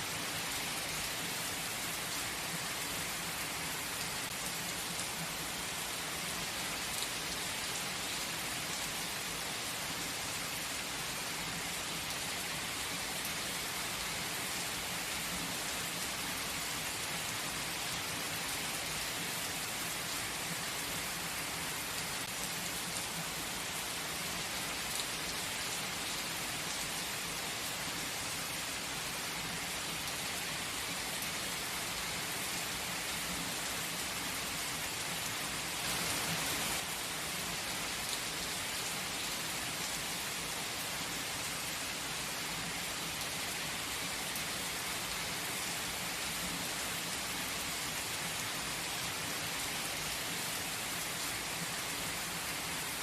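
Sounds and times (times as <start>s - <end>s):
light rain hiss: 0.0s - 53.0s.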